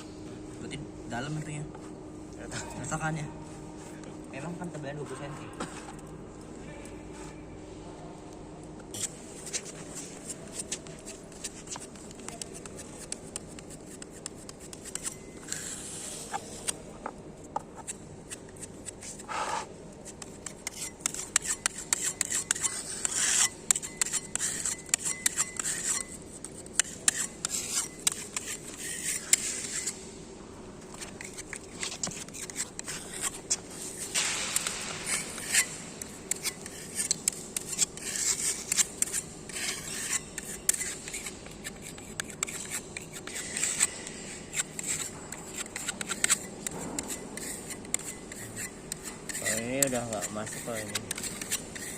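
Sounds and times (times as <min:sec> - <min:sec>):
tool scraping on concrete: 0:08.9 - 0:30.0, 0:30.8 - 0:51.9.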